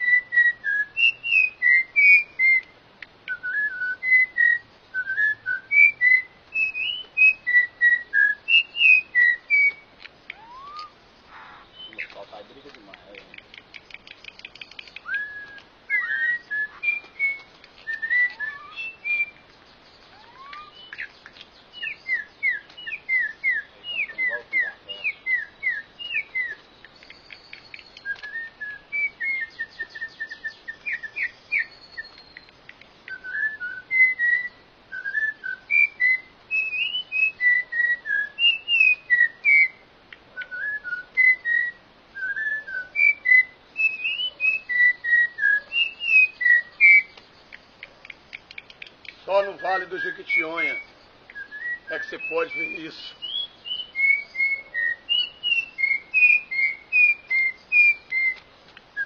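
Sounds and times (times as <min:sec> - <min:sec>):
birds singing whistled notes: 0:00.0 - 0:59.0.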